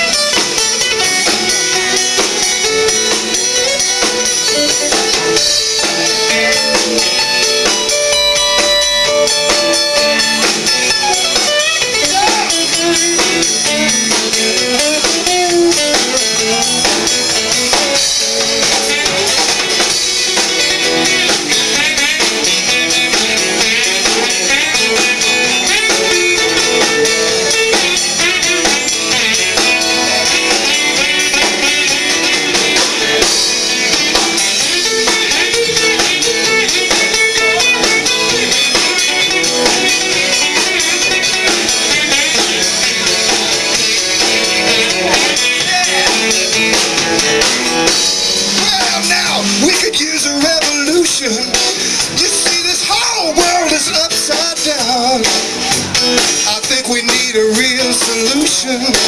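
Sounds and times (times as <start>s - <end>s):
drum kit: 0.0s - 59.0s
electric guitar: 0.0s - 59.0s.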